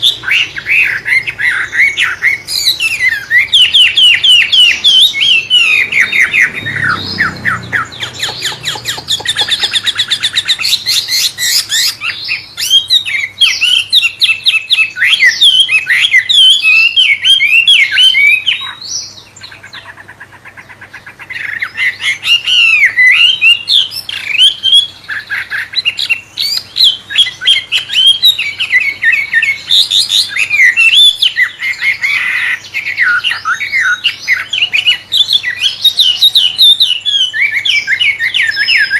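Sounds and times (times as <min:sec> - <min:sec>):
songbird singing whistled notes: 0:00.0 - 0:38.9.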